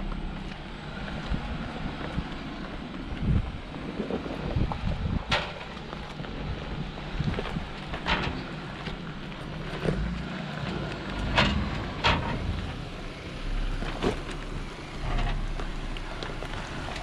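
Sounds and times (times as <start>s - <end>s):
engine rumbling low: 0.0s - 17.0s.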